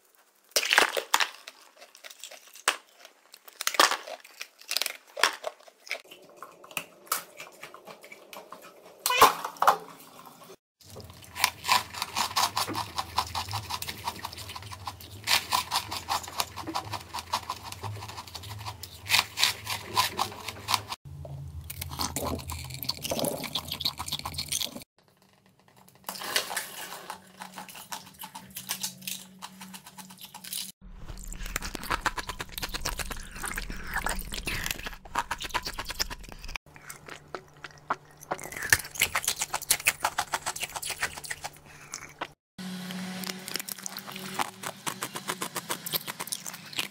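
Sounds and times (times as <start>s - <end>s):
ice crunching in chewing: 0.0s - 8.9s, 10.8s - 21.0s, 21.7s - 24.9s, 25.7s - 42.4s, 43.2s - 46.9s.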